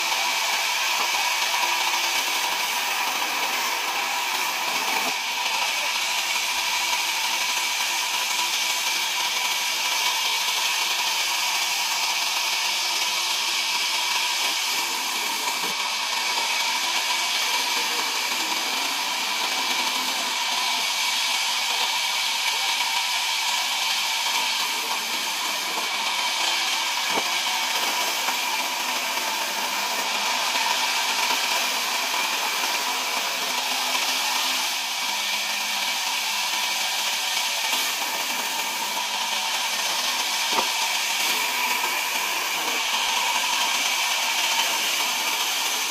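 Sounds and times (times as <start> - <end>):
band saw whining: 0.0 - 45.9.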